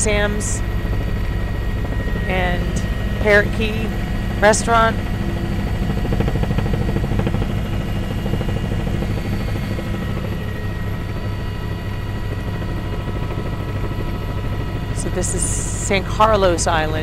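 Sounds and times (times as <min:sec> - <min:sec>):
helicopter in flight: 0:00.0 - 0:17.0.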